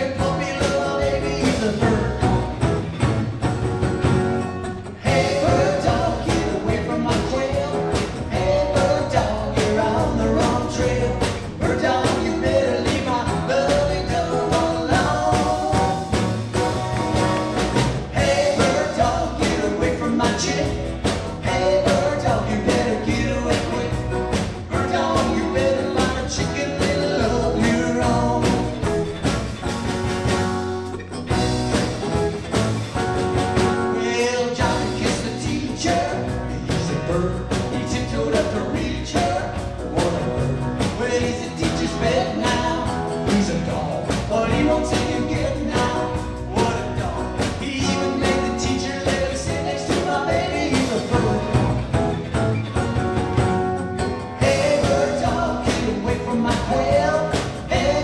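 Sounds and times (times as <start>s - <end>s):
person singing: 0.0s - 2.5s, 5.0s - 28.9s, 34.0s - 51.8s, 54.4s - 58.0s
live rock and roll band: 0.0s - 58.0s
steady drum beat: 0.0s - 58.0s.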